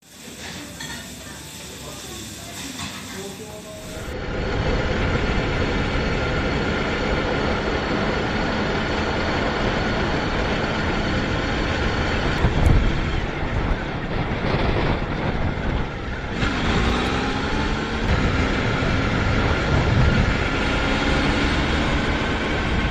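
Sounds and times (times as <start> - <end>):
motorcycle engine running: 3.8 - 22.9
wind rush over microphone: 4.0 - 22.9.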